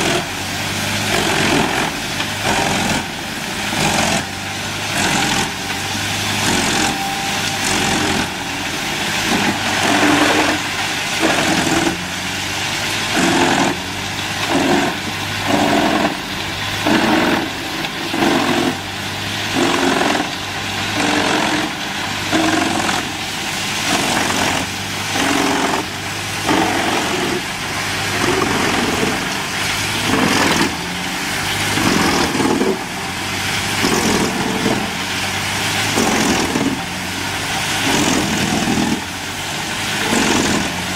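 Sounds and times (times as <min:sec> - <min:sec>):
machine surging into wood: 0:00.0 - 0:40.9
wood-processing machine running: 0:00.0 - 0:40.9.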